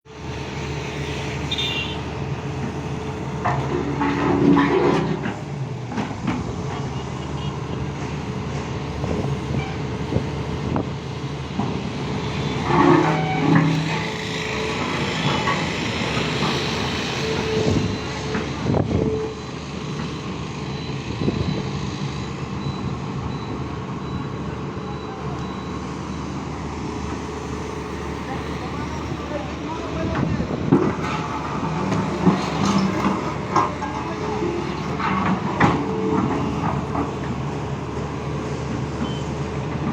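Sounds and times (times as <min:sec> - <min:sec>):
excavator diesel engine running: 0:00.1 - 0:39.9.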